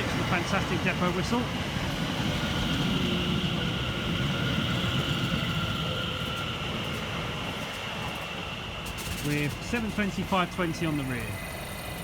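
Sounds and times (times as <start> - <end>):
electric train high whine: 0.0 - 12.0
train running rumble: 0.0 - 12.0.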